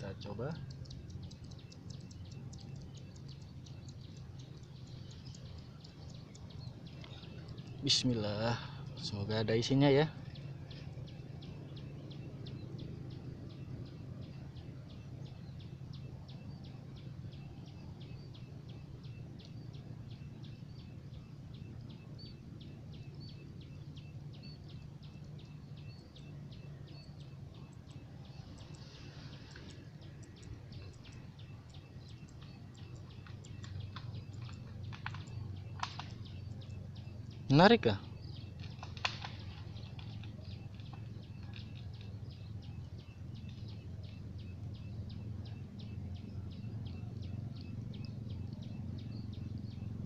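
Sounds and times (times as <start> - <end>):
bird calls: 0.0 - 50.0
low steady hum: 0.0 - 50.0.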